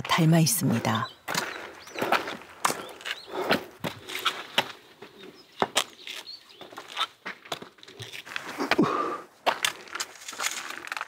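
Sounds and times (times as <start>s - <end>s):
footsteps on rock: 1.0s - 11.0s.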